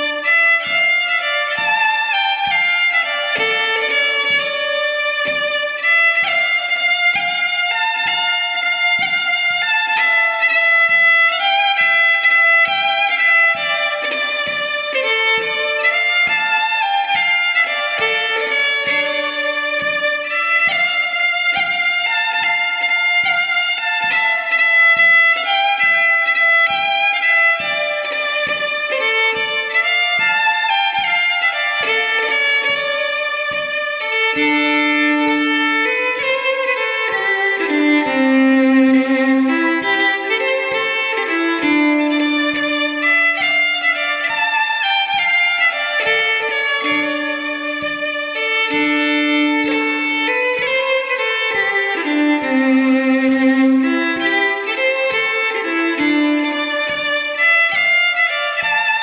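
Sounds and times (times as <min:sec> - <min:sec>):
solo fiddle march tune: 0:00.0 - 0:59.0.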